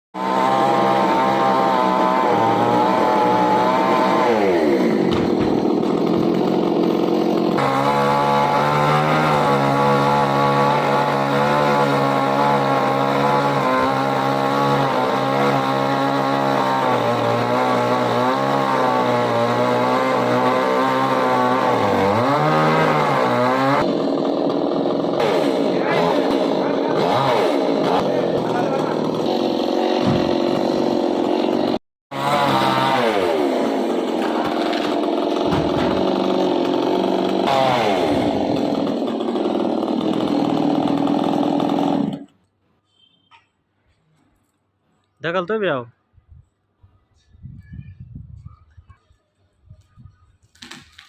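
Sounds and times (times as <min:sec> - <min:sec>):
chainsaw running at high revs: 0:00.2 - 0:42.3.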